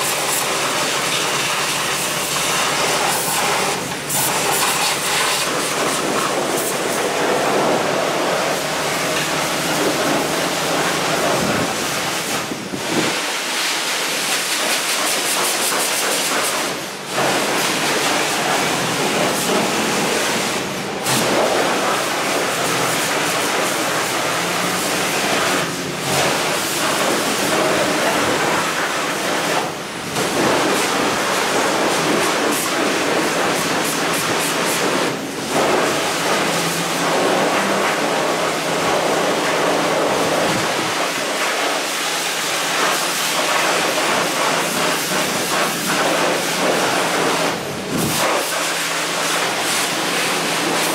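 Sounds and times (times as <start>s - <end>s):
pressure washer spraying water: 0.0s - 50.9s.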